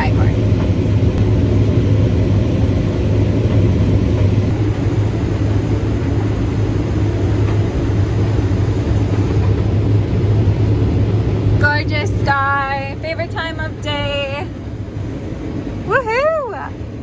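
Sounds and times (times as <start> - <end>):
harvest machinery engine drone: 0.0 - 17.0.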